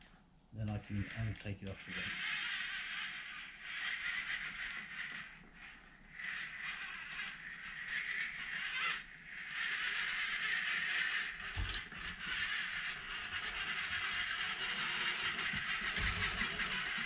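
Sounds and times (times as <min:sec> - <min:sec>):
electric motors whirring: 0:00.6 - 0:17.0.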